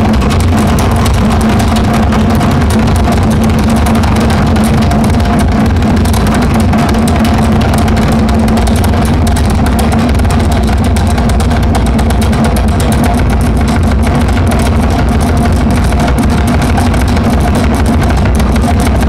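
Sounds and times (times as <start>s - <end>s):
engine-like drone with crackle: 0.0s - 19.0s.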